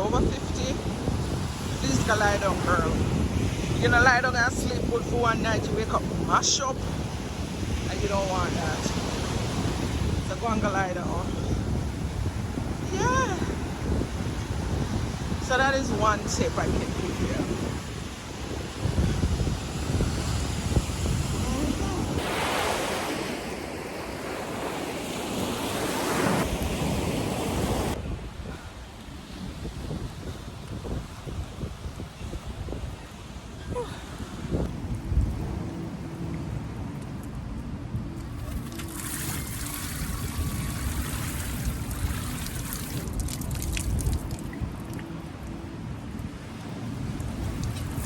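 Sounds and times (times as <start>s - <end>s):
ocean surf washing onto shore: 0.0s - 48.0s
wind buffeting microphone: 0.0s - 48.0s.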